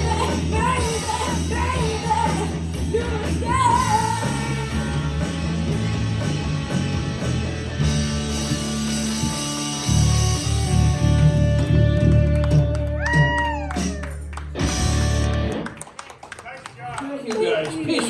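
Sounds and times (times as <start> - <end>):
bass guitar: 0.0 - 15.8
electric guitar: 0.0 - 15.9.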